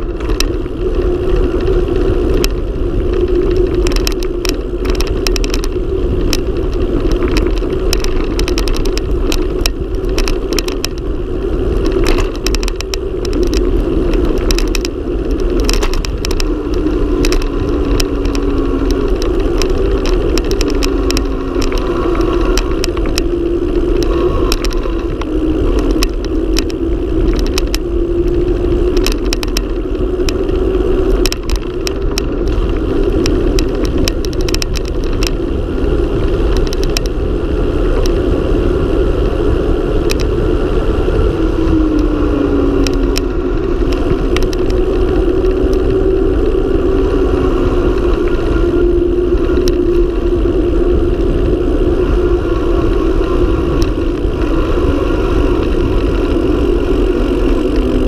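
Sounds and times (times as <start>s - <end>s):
bike clicks and rattles over bumps: 0.0s - 58.0s
bike tyre hum: 0.0s - 58.0s
wind rush on microphone: 0.0s - 58.0s.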